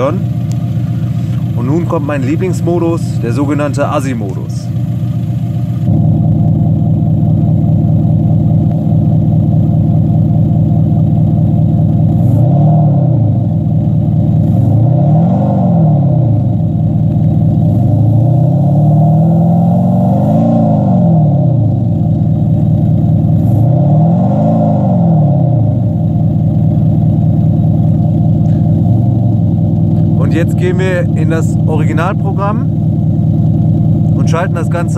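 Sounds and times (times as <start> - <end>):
engine revving: 0.0 - 9.9, 10.6 - 34.9
artificial burbling engine note: 0.0 - 34.9.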